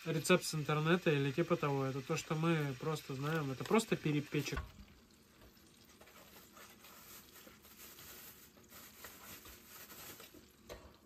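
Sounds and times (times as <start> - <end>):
faint soft small noises: 0.1 - 11.0.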